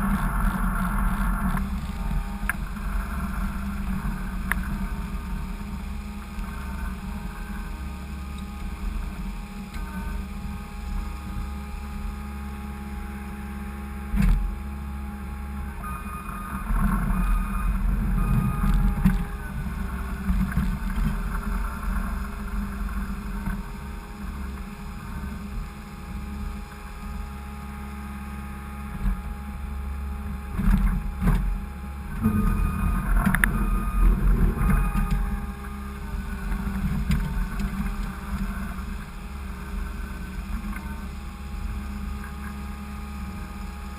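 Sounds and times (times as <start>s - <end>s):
skid steer engine running: 0.0s - 43.9s.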